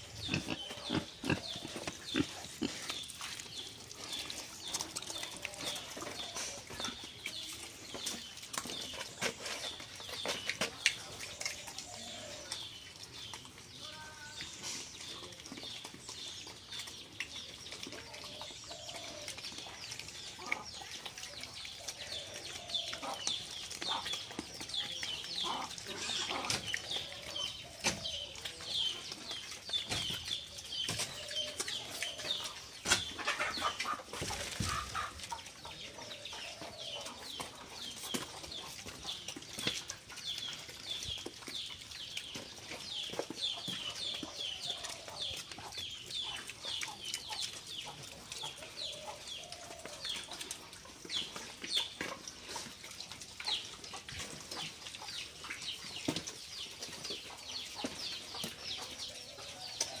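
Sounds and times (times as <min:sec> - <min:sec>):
birds chirping: 0:00.0 - 1:00.0.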